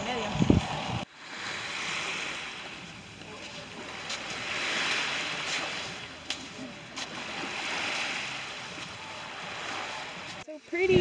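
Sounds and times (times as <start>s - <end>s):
surf hissing on sand: 0.0s - 11.0s.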